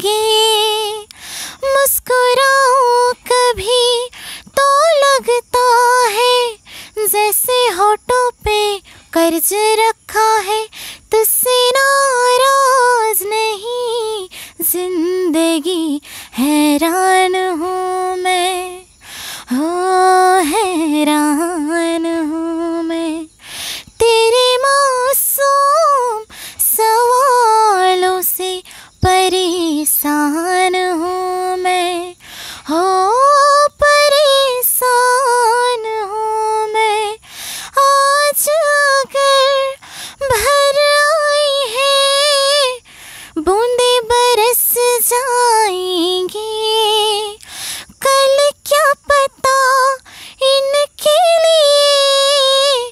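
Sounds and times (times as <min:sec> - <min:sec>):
woman singing unaccompanied: 0:00.0 - 0:52.9.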